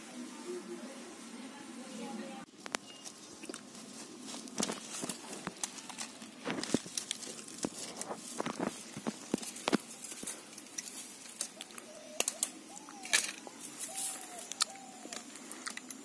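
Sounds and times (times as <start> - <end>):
wire twisting clicks and scrapes: 2.6 - 16.0.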